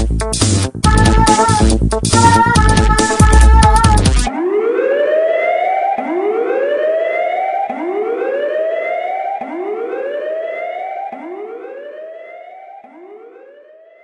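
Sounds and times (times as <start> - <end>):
siren wailing: 0.9 - 14.0.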